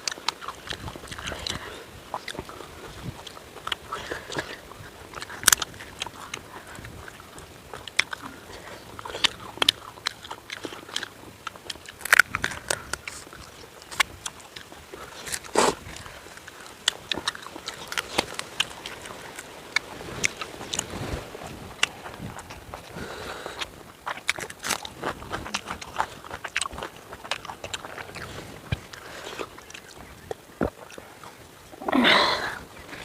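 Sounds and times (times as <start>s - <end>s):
person biting and chewing food: 0.0s - 33.0s.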